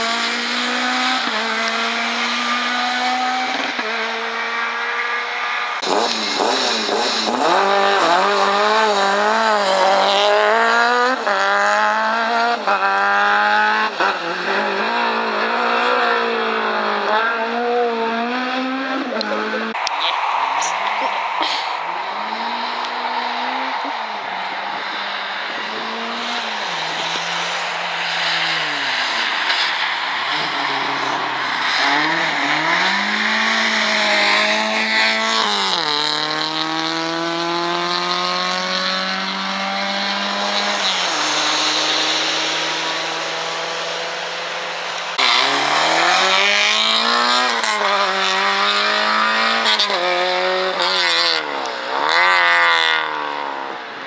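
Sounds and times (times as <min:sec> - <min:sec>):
rally car engines accelerating: 0:00.0 - 0:54.0.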